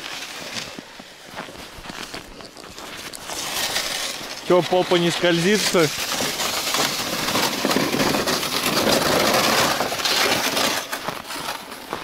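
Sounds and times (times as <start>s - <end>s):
sled scraping over snow: 0.0s - 12.0s.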